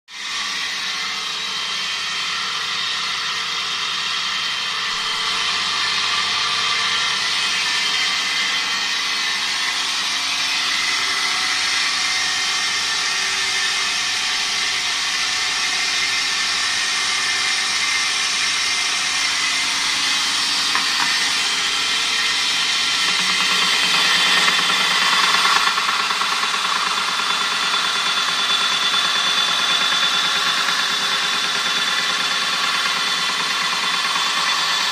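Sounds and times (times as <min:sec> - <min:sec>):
belt sander running: 0:00.2 - 0:34.9.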